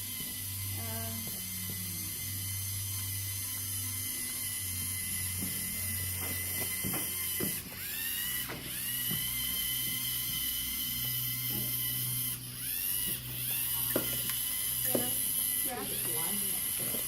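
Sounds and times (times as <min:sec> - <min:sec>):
electric gear motors whining: 0:00.0 - 0:17.0.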